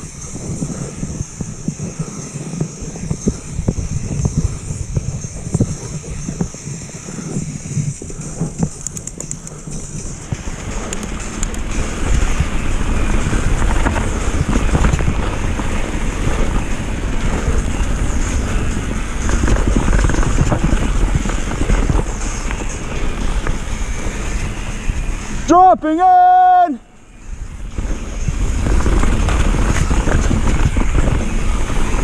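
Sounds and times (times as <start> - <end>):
wind buffeting microphone: 0.0 - 25.9, 26.8 - 32.0
mountain bike rattling over rough ground: 0.0 - 32.0.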